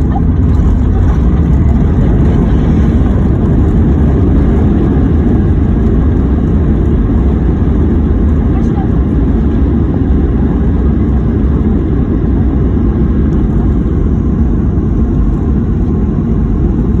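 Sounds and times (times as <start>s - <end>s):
airplane landing rumble: 0.0s - 17.0s.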